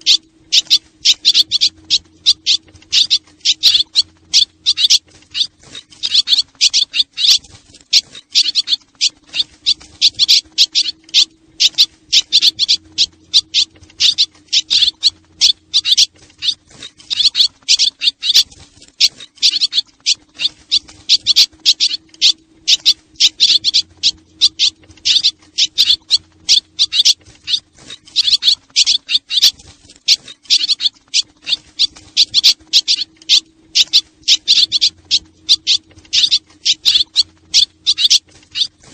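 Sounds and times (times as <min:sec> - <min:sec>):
faint low hum: 0:00.0 - 0:38.9
swallows twittering: 0:00.0 - 0:38.9.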